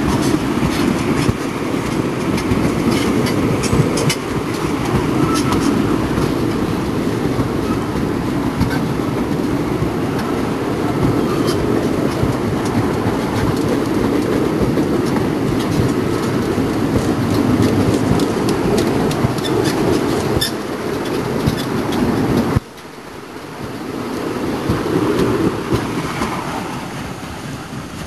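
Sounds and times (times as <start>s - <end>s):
wheels clattering on rail: 0.0s - 28.0s.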